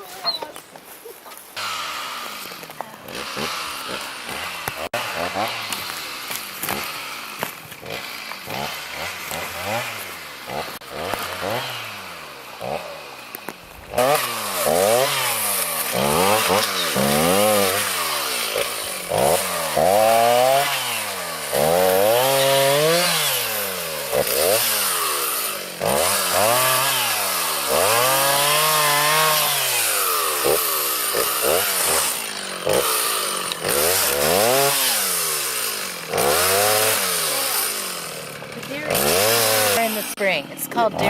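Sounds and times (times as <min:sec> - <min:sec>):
chainsaw revving: 0:01.6 - 0:41.0.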